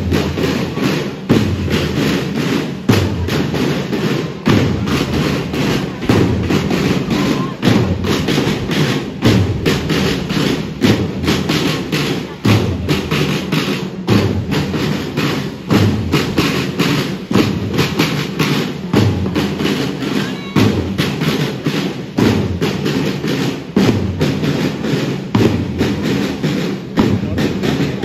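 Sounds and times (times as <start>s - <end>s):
children playing side drums: 0.0s - 28.0s.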